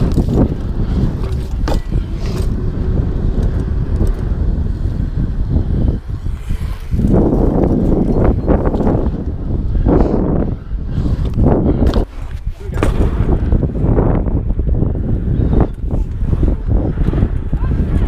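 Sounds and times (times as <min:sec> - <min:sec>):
bike tyres rumbling on concrete: 0:00.0 - 0:18.0
wind buffeting microphone: 0:00.0 - 0:18.0.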